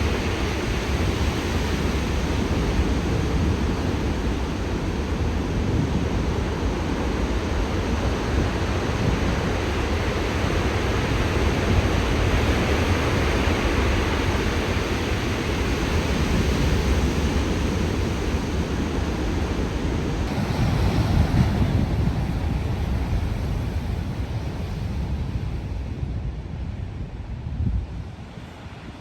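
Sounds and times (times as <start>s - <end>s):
ocean waves breaking: 0.0s - 27.1s.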